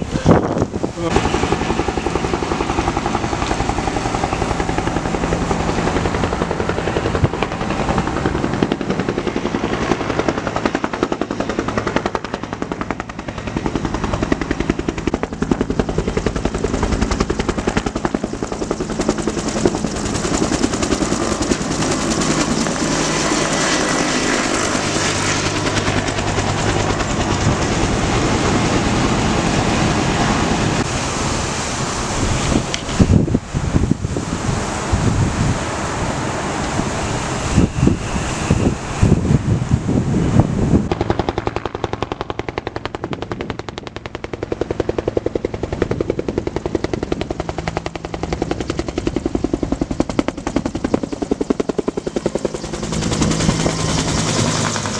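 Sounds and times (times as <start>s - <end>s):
helicopter rotor blades beating: 0.0s - 54.9s.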